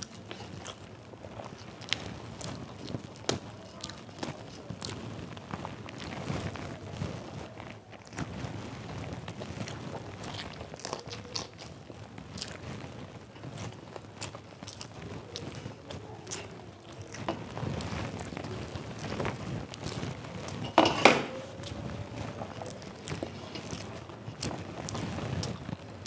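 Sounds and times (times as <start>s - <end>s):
person chewing: 0.0s - 6.2s, 9.3s - 26.0s
fingers mixing rice on metal plate: 0.0s - 26.0s.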